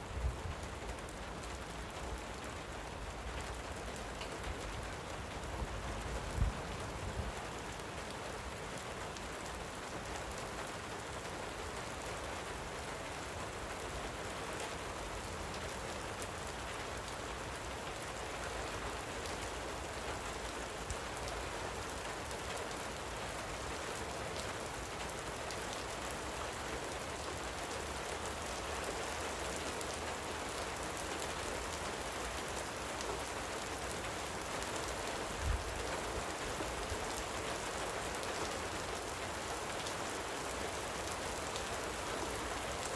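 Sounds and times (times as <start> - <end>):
light rain falling: 0.0 - 42.9.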